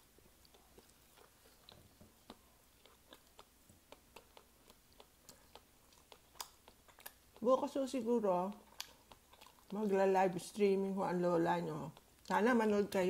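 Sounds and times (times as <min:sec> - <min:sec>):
faint chewing mouth clicks: 0:00.0 - 0:10.0, 0:11.8 - 0:12.4.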